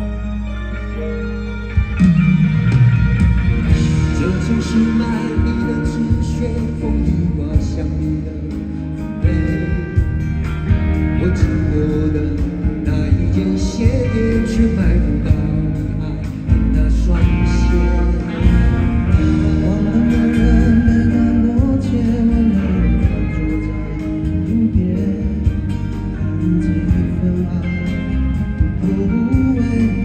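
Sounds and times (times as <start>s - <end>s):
rock ballad with guitars: 0.0s - 30.0s
man singing: 3.6s - 30.0s.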